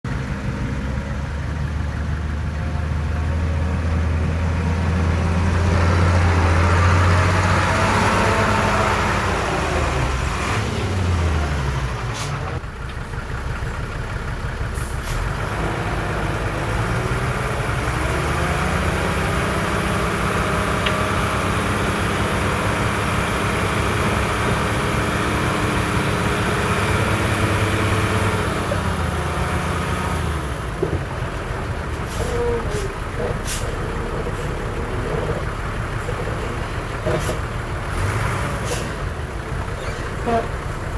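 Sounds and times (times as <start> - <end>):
heavy diesel engine under load: 0.1 - 40.9.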